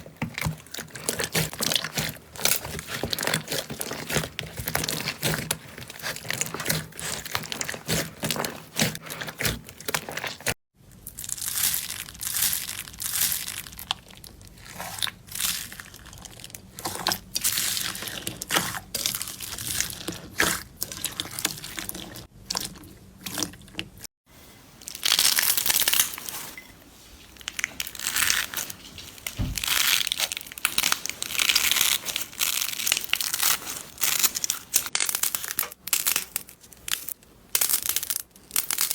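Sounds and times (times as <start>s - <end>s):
slime squeezed crackling: 0.0s - 24.0s, 27.4s - 38.9s.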